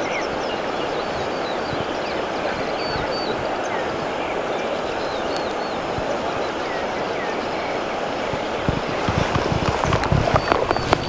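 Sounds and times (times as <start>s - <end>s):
river water rushing: 0.0s - 11.0s
small birds chirping: 0.0s - 11.0s.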